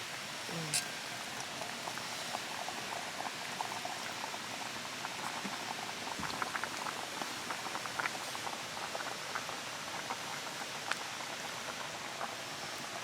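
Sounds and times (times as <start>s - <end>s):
food cooking hiss: 0.0s - 13.0s.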